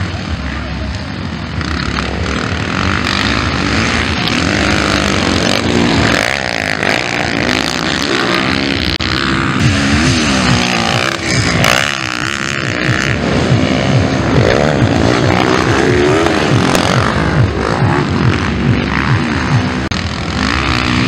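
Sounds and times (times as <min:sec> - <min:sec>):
motocross bikes racing past: 0:00.0 - 0:21.0.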